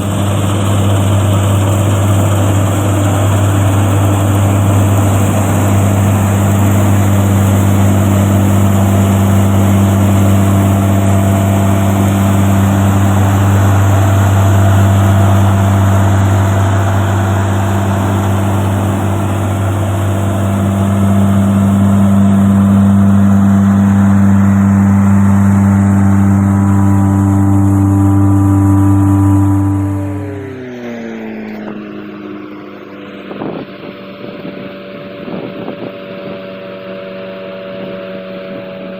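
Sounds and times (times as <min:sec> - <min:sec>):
harvester engine humming: 0:00.0 - 0:38.9.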